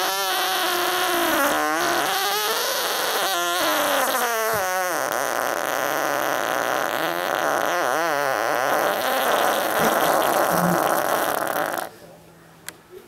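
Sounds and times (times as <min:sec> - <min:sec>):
long fart: 0:00.0 - 0:11.9.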